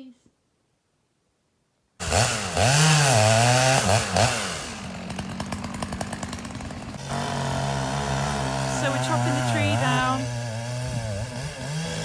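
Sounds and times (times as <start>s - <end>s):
chainsaw revving and cutting: 2.0s - 12.0s.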